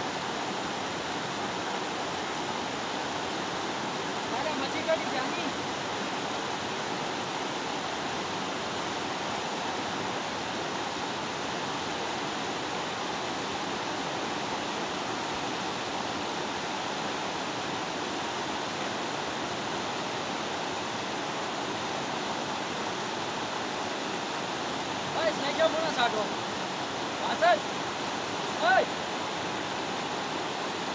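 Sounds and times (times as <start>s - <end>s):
river rapids roaring: 0.0s - 30.9s.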